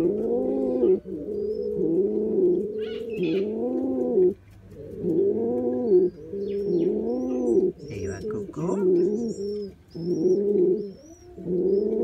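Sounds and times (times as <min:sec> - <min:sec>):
pigeon cooing: 0:00.0 - 0:12.0.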